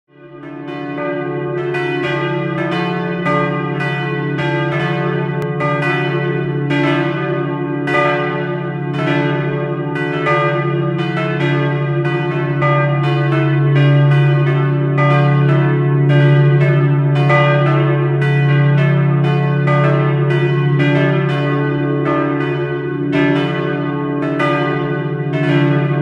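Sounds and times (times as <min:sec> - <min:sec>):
church bells ringing: 0:00.1 - 0:26.0.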